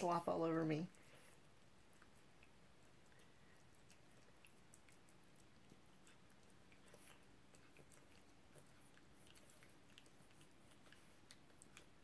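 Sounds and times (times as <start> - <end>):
cat licking wet clicks: 0.9 - 12.0.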